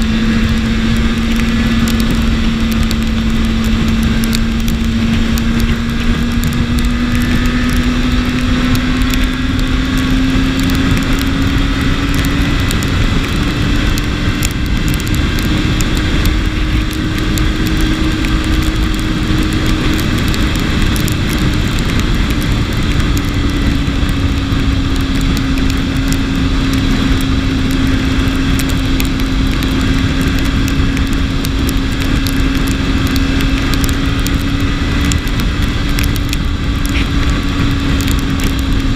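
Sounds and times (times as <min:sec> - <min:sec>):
motorcycle engine cruising: 0:00.0 - 0:38.9
road noise: 0:00.0 - 0:38.9
wind noise: 0:00.0 - 0:38.9.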